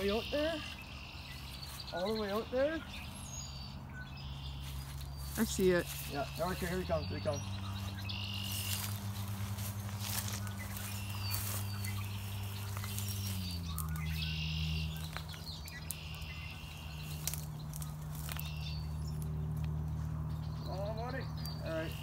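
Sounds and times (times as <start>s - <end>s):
birds chirping: 0.0s - 22.0s
steady low hum: 2.8s - 22.0s.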